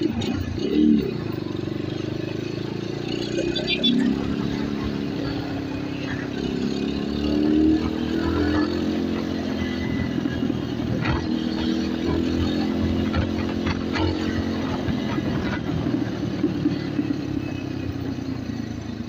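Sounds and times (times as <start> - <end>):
motorcycle engine and exhaust: 0.0 - 19.0.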